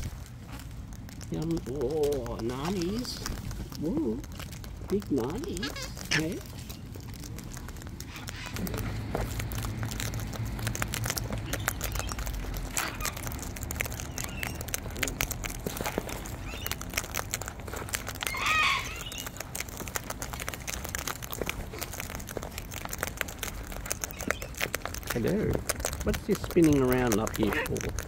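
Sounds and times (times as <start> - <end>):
cockatoos crunching seeds: 0.0 - 28.0.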